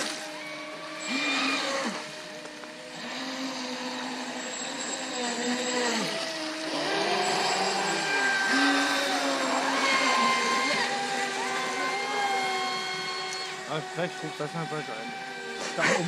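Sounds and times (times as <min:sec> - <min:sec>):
rc boat electric motors whining: 0:00.0 - 0:16.0.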